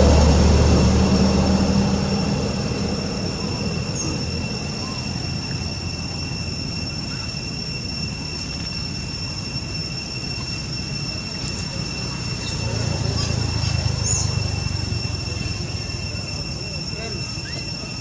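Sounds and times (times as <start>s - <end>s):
high-pitched insect drone: 0.0s - 18.0s
low rumbling background noise: 0.0s - 18.0s.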